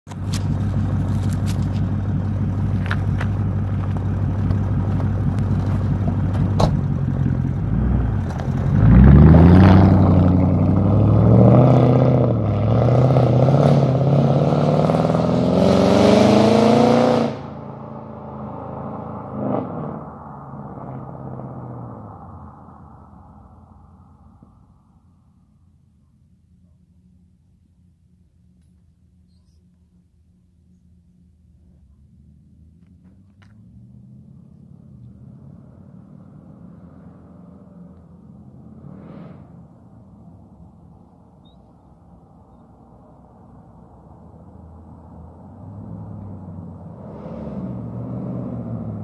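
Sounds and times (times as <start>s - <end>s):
car engine idling and revving: 0.0s - 49.0s
car accelerating away: 0.1s - 25.6s, 31.5s - 49.0s.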